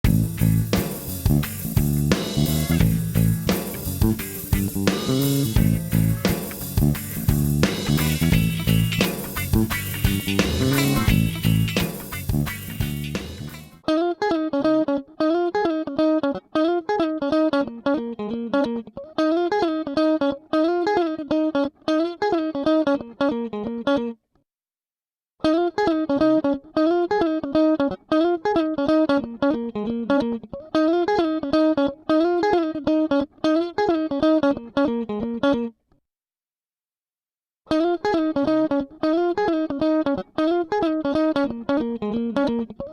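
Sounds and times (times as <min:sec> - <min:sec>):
plucked guitar riff: 0:00.0 - 0:24.2, 0:25.4 - 0:35.8, 0:37.7 - 0:42.9.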